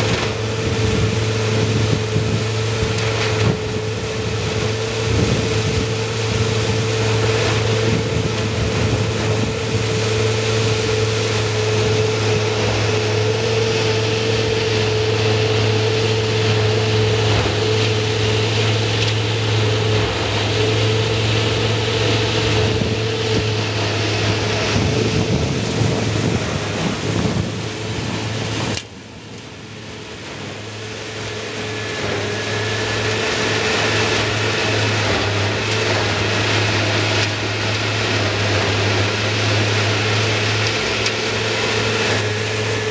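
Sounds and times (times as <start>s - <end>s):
bale processor shredding hay: 0.0s - 42.9s
tractor engine drone: 0.0s - 42.9s.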